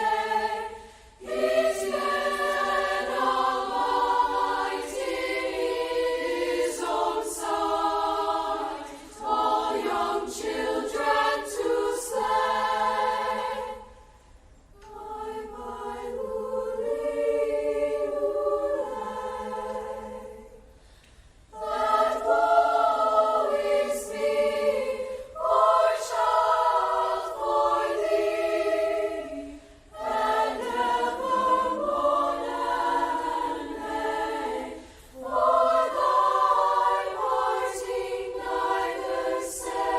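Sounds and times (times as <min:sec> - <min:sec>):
choir singing: 0:00.0 - 0:20.8, 0:21.5 - 0:39.9.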